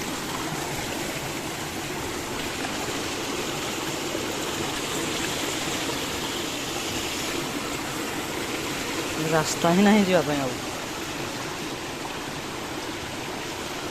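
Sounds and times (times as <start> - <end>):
stream water rushing: 0.0 - 13.9.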